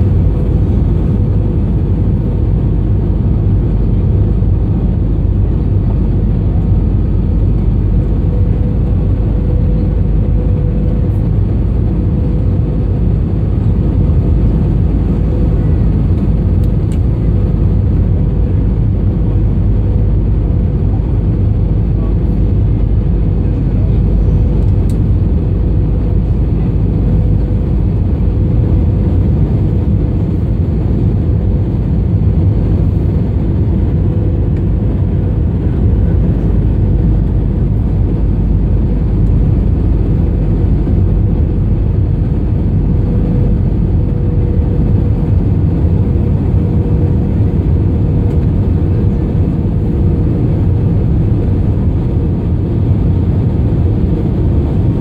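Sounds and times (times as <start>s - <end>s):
aircraft engine and airflow noise: 0.0s - 55.0s.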